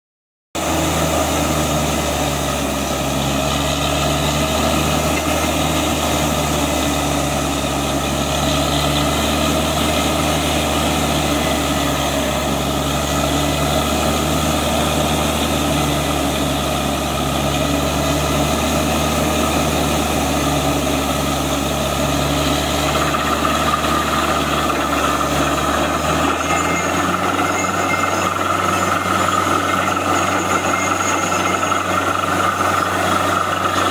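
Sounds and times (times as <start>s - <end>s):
drilling rig engine drone: 0.6s - 33.9s.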